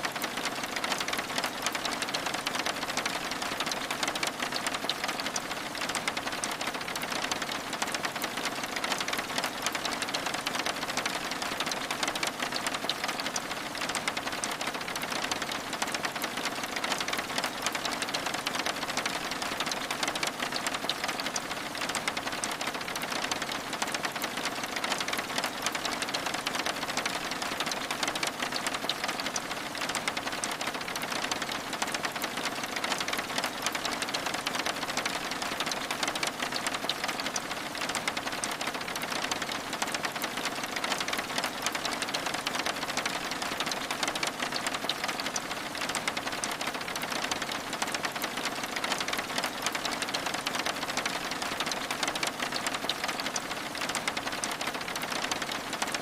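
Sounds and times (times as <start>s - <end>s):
rain patter on window glass: 0.0s - 56.0s.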